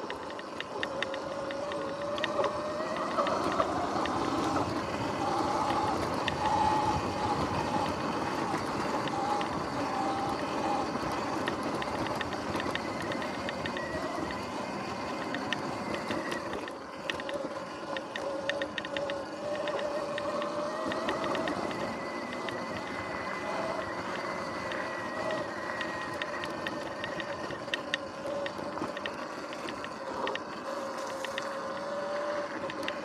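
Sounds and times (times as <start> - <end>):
electric motor whine: 0.0 - 33.0
small clicks and rattles: 0.0 - 33.0.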